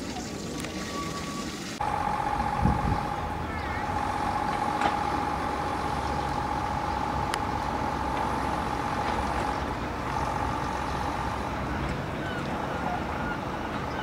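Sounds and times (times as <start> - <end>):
electric tram whine and rumble: 1.8 - 14.0.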